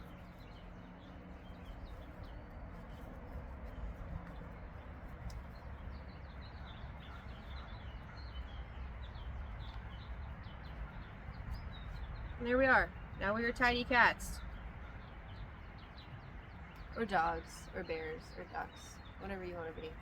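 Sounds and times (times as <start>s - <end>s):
outdoor background hum: 0.0s - 20.0s
small birds chirping: 0.0s - 20.0s.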